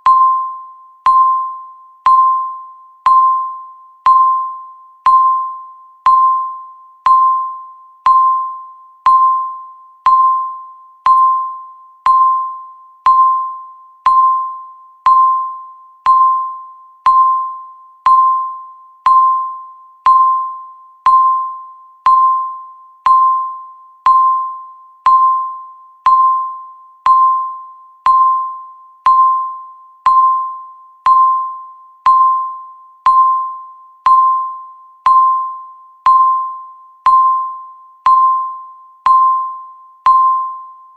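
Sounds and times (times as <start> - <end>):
timer beeps: 0.0 - 40.9.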